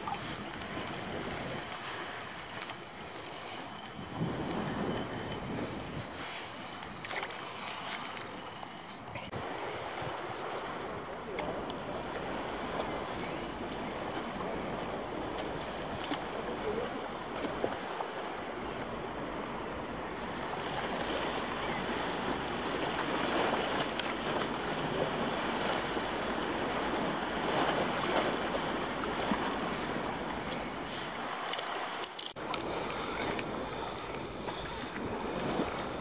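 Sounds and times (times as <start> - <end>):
wind noise: 0.0 - 18.0, 18.6 - 36.0
sea water lapping: 0.0 - 36.0.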